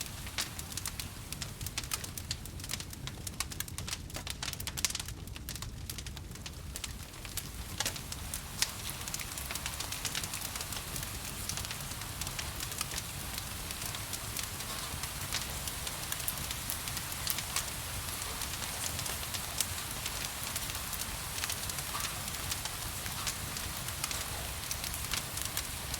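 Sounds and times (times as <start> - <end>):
rain hiss: 0.0 - 3.6, 6.4 - 25.9
wood fire crackling: 0.0 - 25.9.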